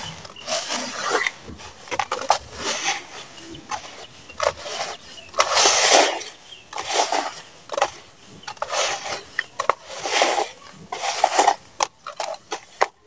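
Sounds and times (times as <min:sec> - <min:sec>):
damp sand crumbling by hand: 0:00.0 - 0:13.0
small crackles: 0:00.0 - 0:13.0.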